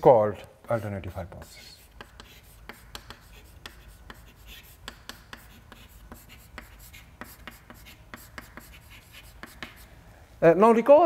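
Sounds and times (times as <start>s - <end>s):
chalk tapping and scratching: 0.4s - 9.9s.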